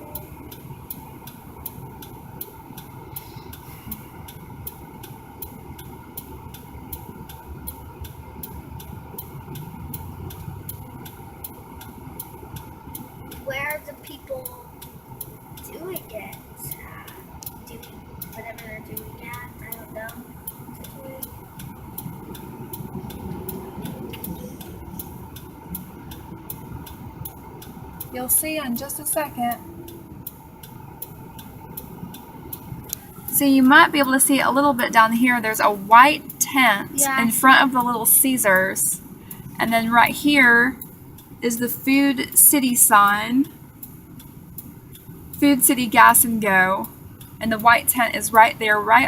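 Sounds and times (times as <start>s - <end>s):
car turn signal clicking: 0.0s - 49.0s
low car engine rumble: 0.0s - 49.0s
traffic: 0.0s - 49.0s.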